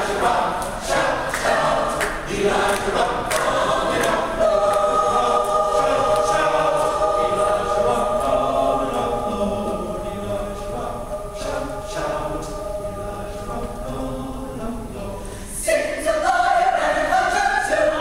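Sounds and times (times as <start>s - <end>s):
choir singing gospel: 0.0s - 18.0s.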